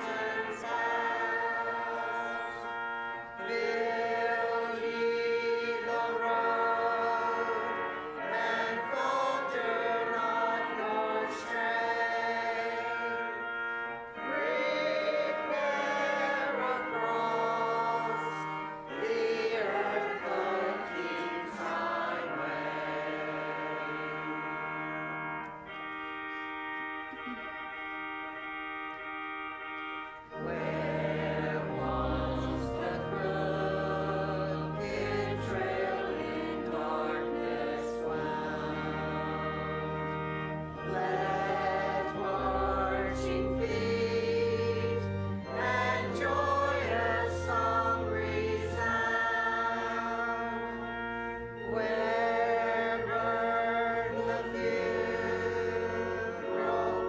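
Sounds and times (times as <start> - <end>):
congregation singing a hymn: 0.0 - 57.0
organ holding chords: 0.0 - 57.0.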